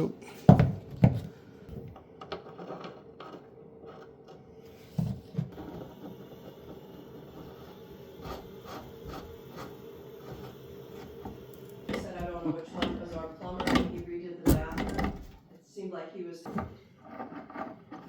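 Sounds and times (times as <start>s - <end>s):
quiet scraping and rubbing: 2.0s - 15.4s, 16.5s - 18.0s.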